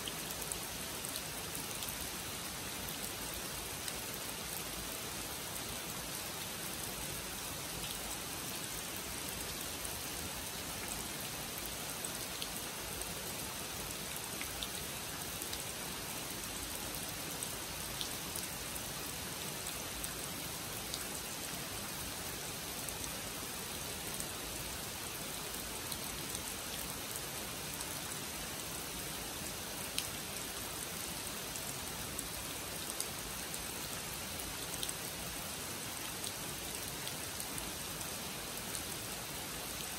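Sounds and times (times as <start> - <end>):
rain falling on pond and trees: 0.0 - 39.9.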